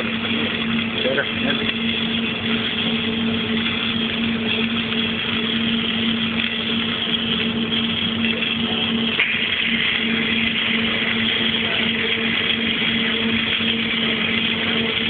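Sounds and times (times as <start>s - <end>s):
welding hiss: 0.0s - 15.0s
welding machine engine running: 0.0s - 15.0s.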